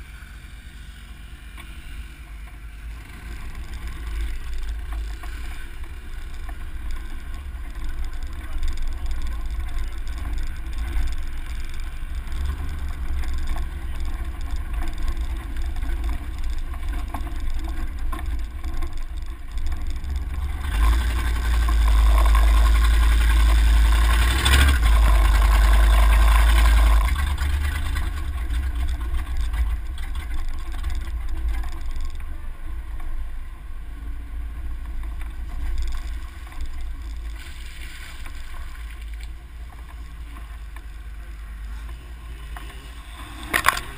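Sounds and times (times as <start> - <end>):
vehicle engine driving: 0.0 - 43.9
wind rumble: 2.7 - 41.7.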